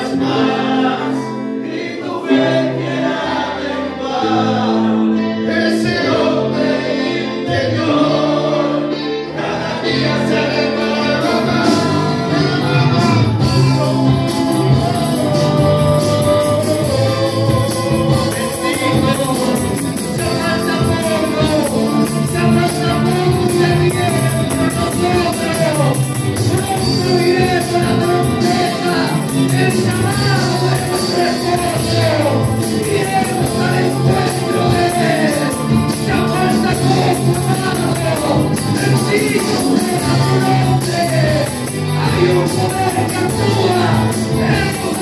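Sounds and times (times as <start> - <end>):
acoustic guitars: 0.0 - 45.0
congregation singing a hymn: 0.0 - 45.0
keyboard: 0.0 - 45.0.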